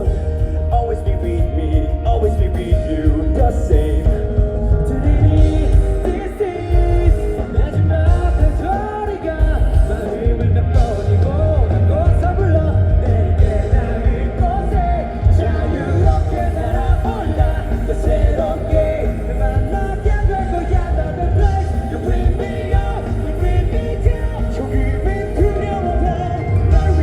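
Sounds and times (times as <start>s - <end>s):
live rock band with singing: 0.0s - 27.0s.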